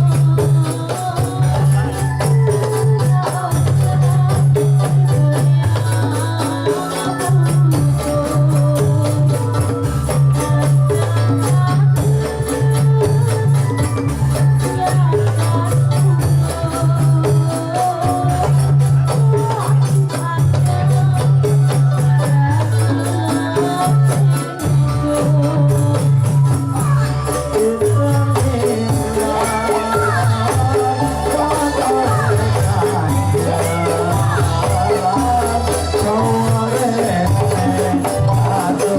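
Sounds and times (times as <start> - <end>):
driving percussion beat: 0.0 - 38.9.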